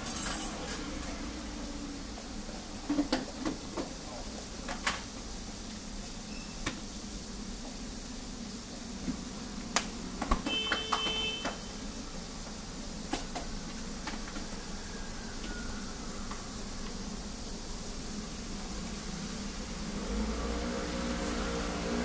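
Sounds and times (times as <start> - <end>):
cooking equipment hum: 0.0 - 22.0.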